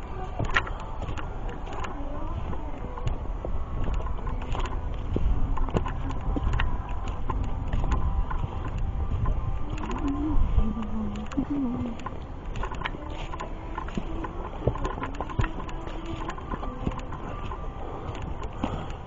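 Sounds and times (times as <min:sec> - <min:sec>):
wind rumble: 0:00.0 - 0:19.0.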